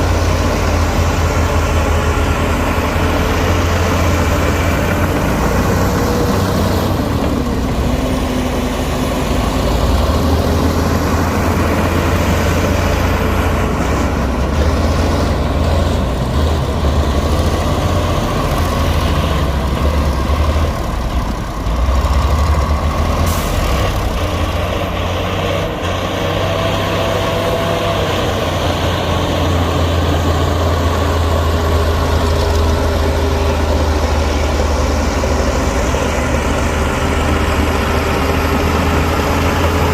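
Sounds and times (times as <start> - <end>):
heavy diesel machinery engine: 0.0 - 39.9.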